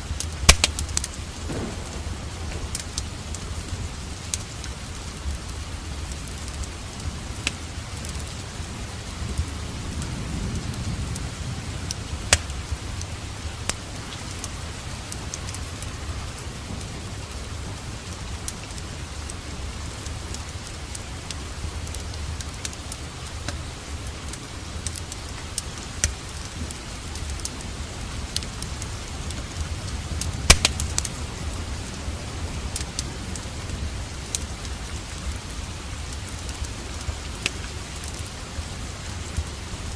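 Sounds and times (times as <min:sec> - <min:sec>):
fire popping: 0:00.0 - 0:08.5, 0:10.5 - 0:15.9, 0:20.0 - 0:38.3
steady rain: 0:00.0 - 0:39.9
wood fire crackling: 0:00.0 - 0:39.9.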